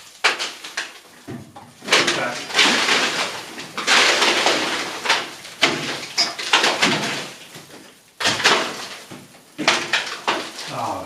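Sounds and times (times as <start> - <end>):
scraping and crumbling plaster: 0.0 - 11.0.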